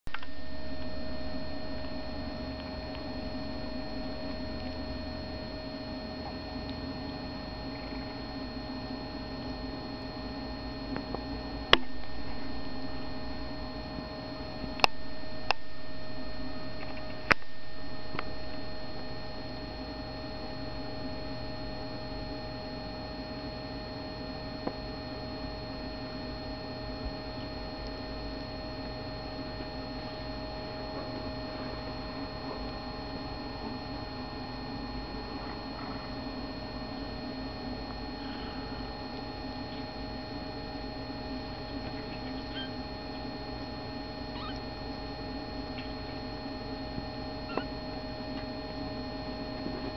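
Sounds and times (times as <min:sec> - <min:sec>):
electrical hum: 0:00.0 - 0:49.9.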